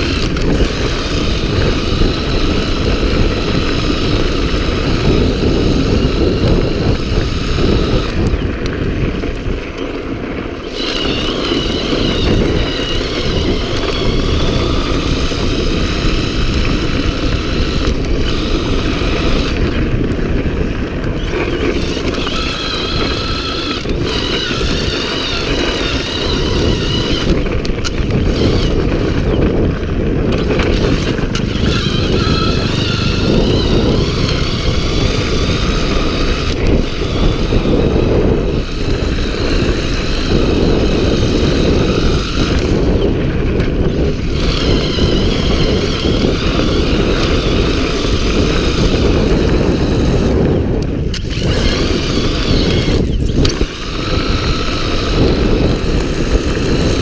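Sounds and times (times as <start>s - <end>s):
bike rattling over dirt: 0.0s - 57.0s
electric motor whine: 0.0s - 57.0s
wind buffeting microphone: 0.0s - 57.0s.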